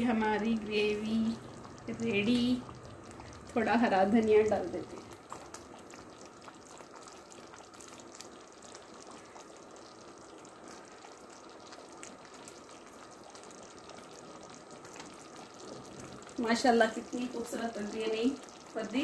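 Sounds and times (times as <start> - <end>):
gravy simmering and bubbling: 0.0 - 19.0.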